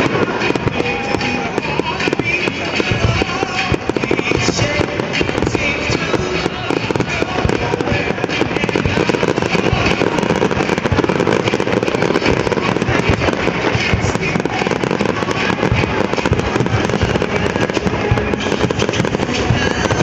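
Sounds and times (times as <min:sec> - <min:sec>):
fireworks popping and banging: 0:00.0 - 0:20.0.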